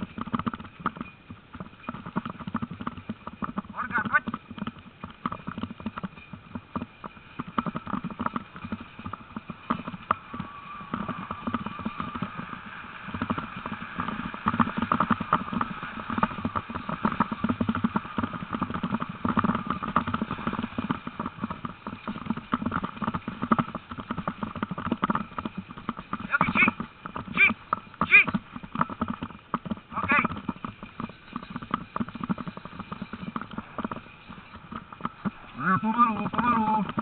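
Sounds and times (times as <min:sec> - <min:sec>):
many paws pattering on dirt: 0:00.0 - 0:37.0.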